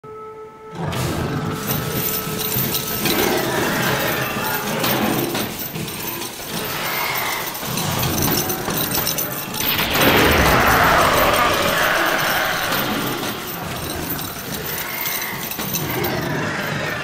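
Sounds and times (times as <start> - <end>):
mechanical clatter and rattle: 1.6 - 17.0.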